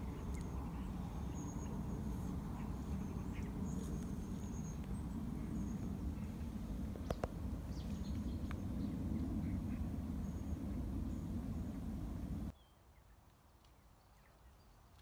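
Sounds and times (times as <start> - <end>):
low rumble: 0.0 - 12.5.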